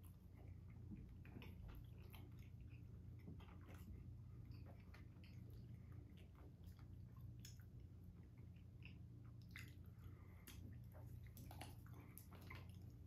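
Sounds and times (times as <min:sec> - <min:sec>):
low steady hum: 0:00.0 - 0:13.0
wet chewing: 0:00.0 - 0:13.0.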